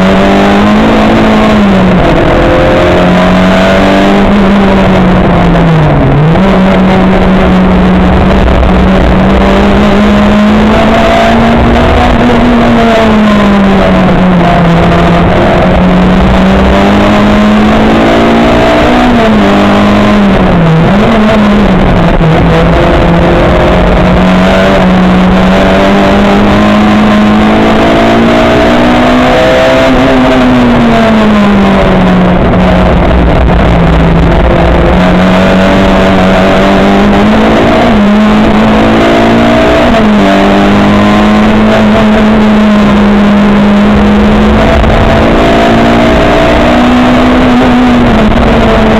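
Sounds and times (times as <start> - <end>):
racing car engine running hard: 0.0 - 48.9.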